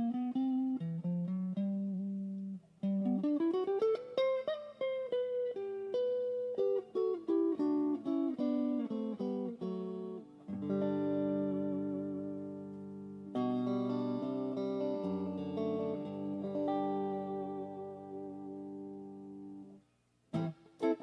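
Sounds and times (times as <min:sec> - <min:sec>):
electric guitar chord ringing: 0:00.0 - 0:19.7
electric guitar single-note lines: 0:00.0 - 0:21.0.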